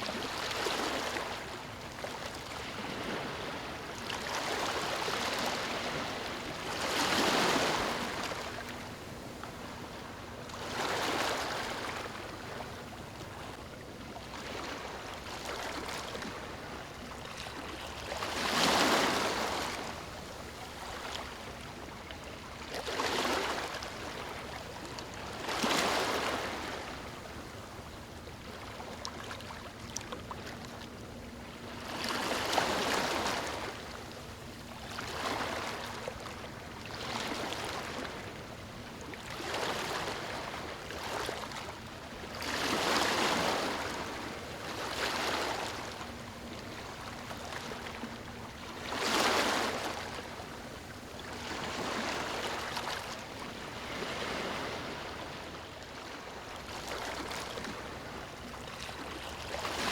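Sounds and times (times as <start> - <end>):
small waves lapping on beach: 0.0 - 59.9.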